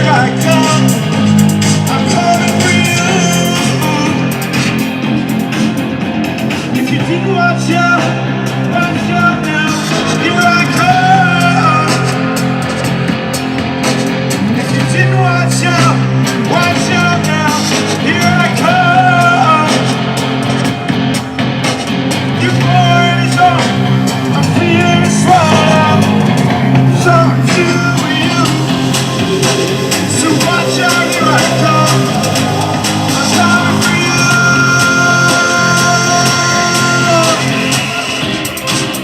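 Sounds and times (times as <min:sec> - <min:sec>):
person singing: 0:00.0 - 0:04.8, 0:06.7 - 0:12.9, 0:14.4 - 0:20.2, 0:22.3 - 0:39.0
rock band playing loudly: 0:00.0 - 0:39.0.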